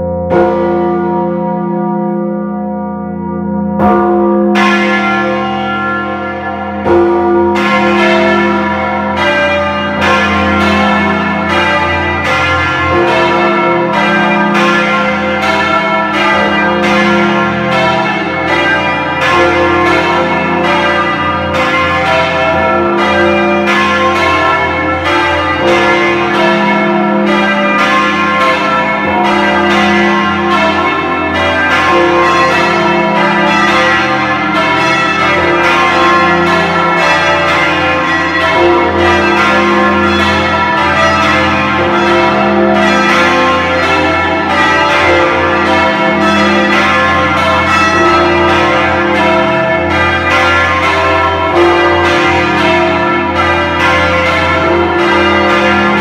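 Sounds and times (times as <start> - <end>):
church bells ringing: 0.0 - 56.0
low hum of big bells: 0.0 - 56.0.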